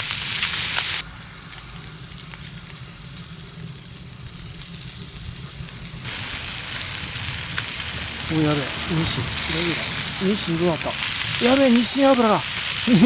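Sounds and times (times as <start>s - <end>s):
campfire burning: 0.0s - 13.0s
fire crackling: 0.0s - 13.0s
food sizzling in oil: 0.0s - 13.0s.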